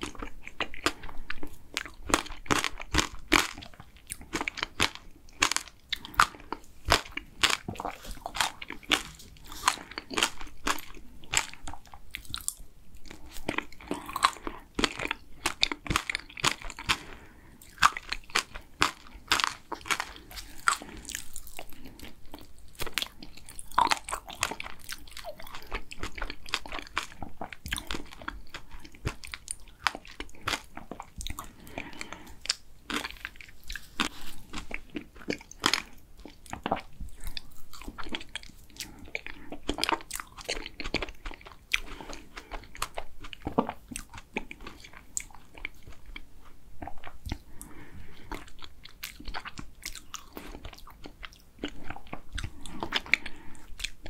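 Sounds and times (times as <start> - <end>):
ice cream crunching: 0.0 - 54.0
wet chewing: 0.0 - 54.0.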